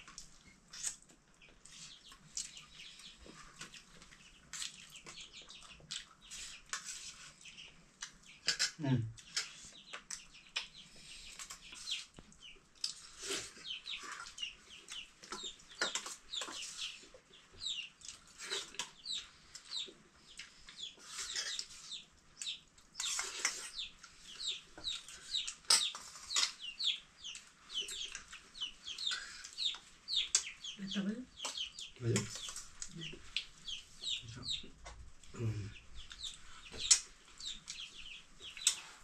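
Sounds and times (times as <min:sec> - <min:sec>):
chickens clucking and cheeping: 0:00.0 - 0:39.0.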